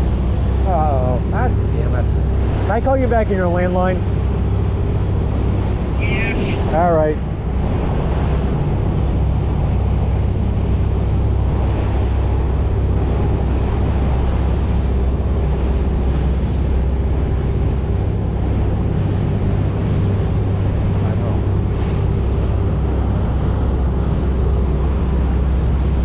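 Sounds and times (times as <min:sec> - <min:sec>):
motorboat engine droning: 0:00.0 - 0:26.0
water rushing past hull: 0:00.0 - 0:26.0
wind buffeting microphone: 0:00.0 - 0:26.0.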